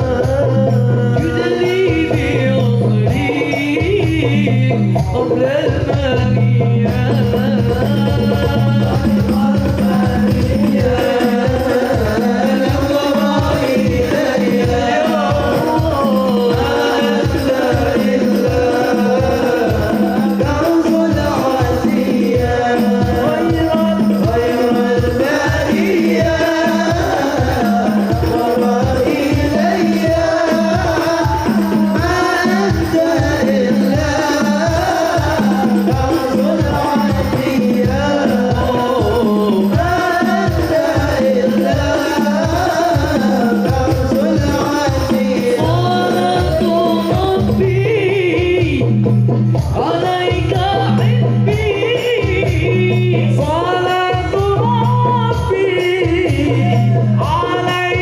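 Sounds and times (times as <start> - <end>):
person singing: 0.0 - 49.0, 49.6 - 58.0
hand-drum beat: 0.0 - 58.0.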